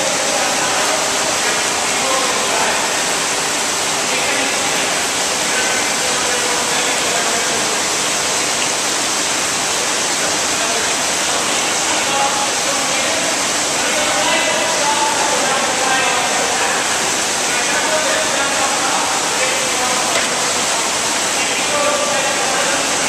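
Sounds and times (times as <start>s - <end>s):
water rushing in tank: 0.0s - 23.0s.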